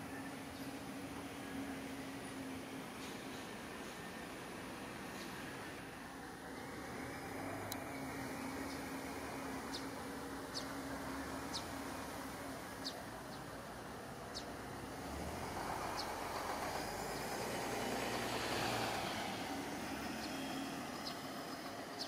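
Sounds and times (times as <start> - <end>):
bus passing by: 0.0 - 22.0.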